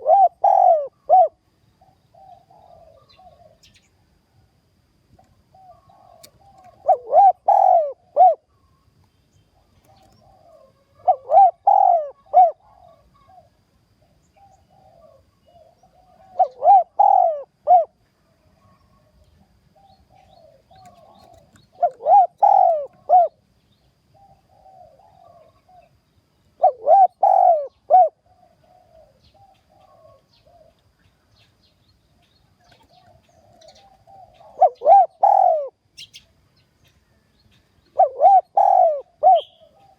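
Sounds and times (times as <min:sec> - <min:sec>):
dove cooing: 0:00.0 - 0:04.4, 0:05.1 - 0:31.0, 0:32.6 - 0:36.4, 0:37.0 - 0:39.9.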